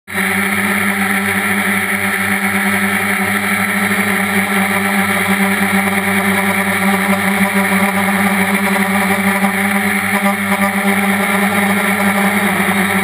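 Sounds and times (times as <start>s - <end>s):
quadcopter motors humming: 0.1s - 13.0s.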